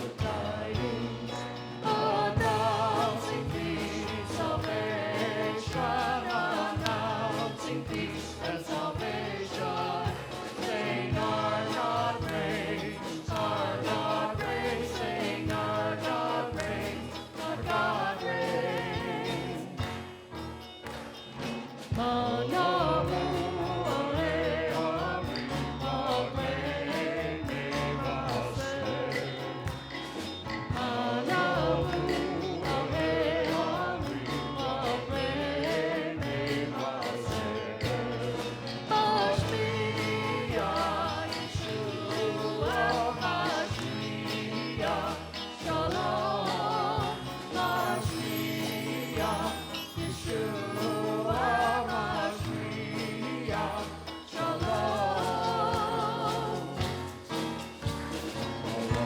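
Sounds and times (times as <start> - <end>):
band with bass: 0.0 - 59.0
jingling tambourine: 0.0 - 59.0
people singing worship song: 0.0 - 59.0.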